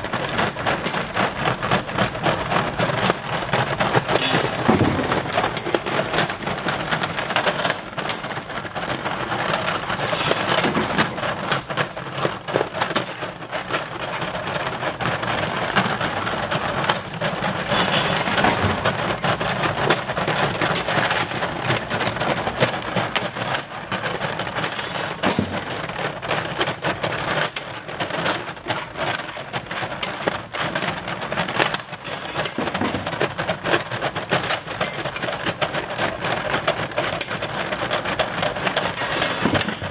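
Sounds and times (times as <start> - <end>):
metal parts clattering on conveyor: 0.0 - 39.9.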